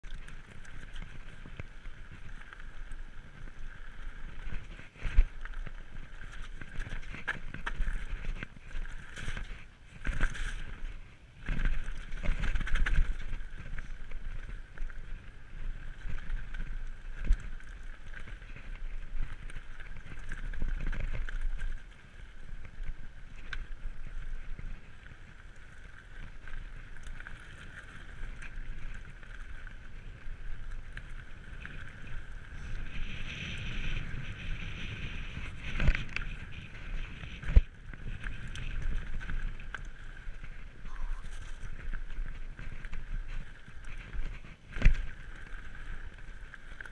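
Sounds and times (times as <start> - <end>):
tyres rumbling over loose stones: 0.0 - 46.9
wind on microphone: 0.0 - 46.9
bike rattling and knocking: 0.1 - 46.9.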